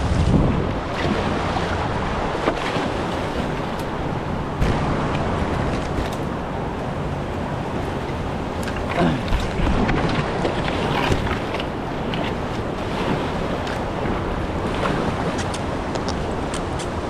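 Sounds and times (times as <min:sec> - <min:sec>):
river water rushing: 0:00.0 - 0:17.0
wind buffeting microphone: 0:00.0 - 0:17.0.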